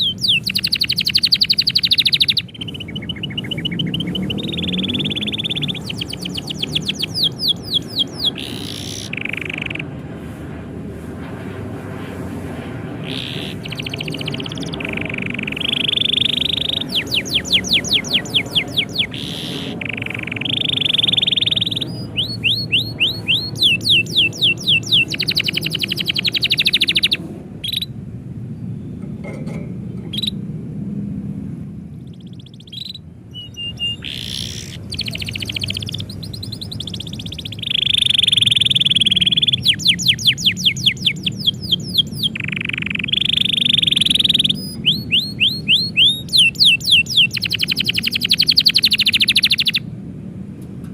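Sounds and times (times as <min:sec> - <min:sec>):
canary singing: 0:00.0 - 0:10.0, 0:13.0 - 0:28.0, 0:30.0 - 0:30.4, 0:31.9 - 0:49.9
low background hum: 0:00.0 - 0:50.9.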